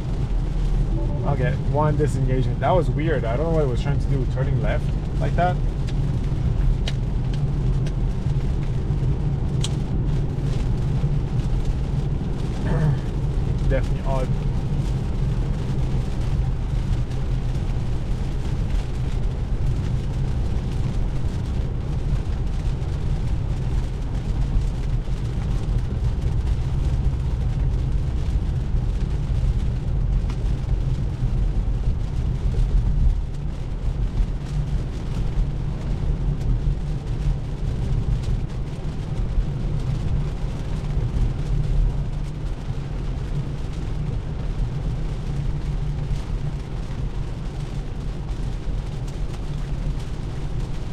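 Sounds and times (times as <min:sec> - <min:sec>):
road rumble: 0:00.0 - 0:50.9.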